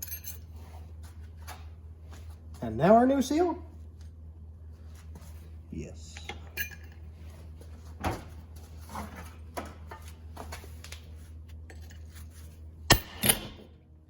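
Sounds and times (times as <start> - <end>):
low shop hum: 0.0 - 14.0.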